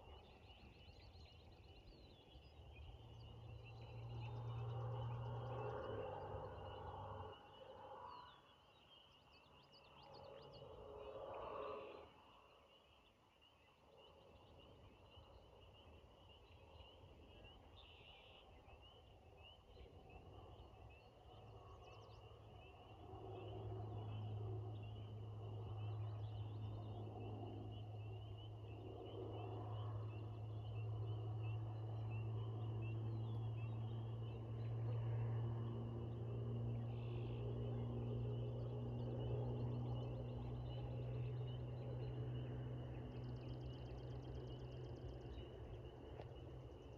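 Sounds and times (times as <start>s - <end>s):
faint bird chirps: 0.0s - 46.9s.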